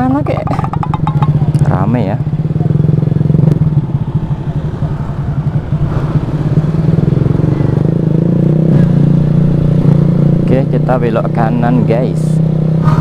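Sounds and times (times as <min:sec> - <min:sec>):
motorcycle engine with loud exhaust: 0:00.0 - 0:13.0.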